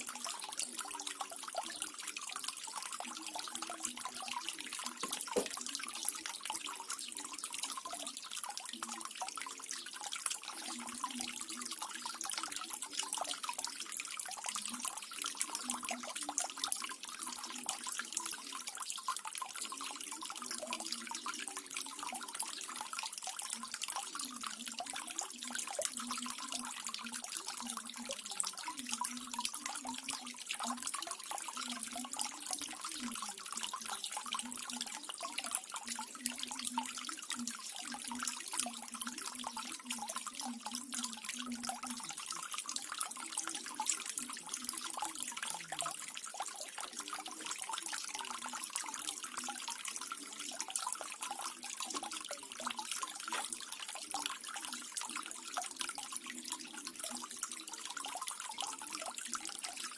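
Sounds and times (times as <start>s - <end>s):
low water gurgle: 0.0s - 59.9s
water feature splashing: 0.0s - 59.9s.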